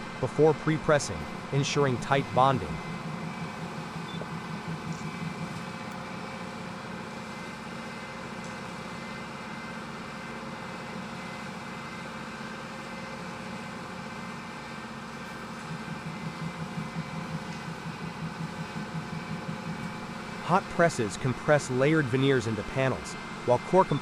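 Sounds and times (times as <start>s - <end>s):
industrial machinery drone: 0.0s - 24.0s.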